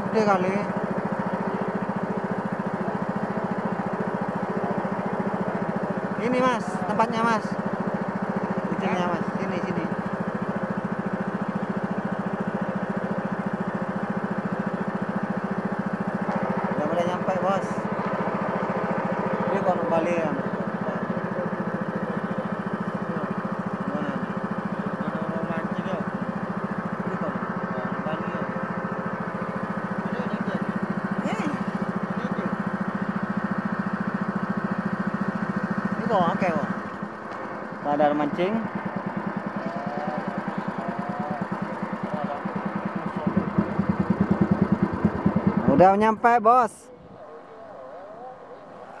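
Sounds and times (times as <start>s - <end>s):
small boat engine puttering: 0.0s - 49.0s.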